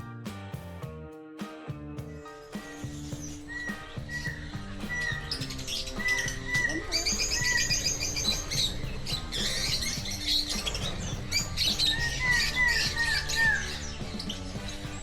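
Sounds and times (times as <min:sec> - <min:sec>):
background music: 0:00.0 - 0:15.0
birds chirping rapidly: 0:02.0 - 0:15.0
bird hooked calls: 0:02.1 - 0:15.0.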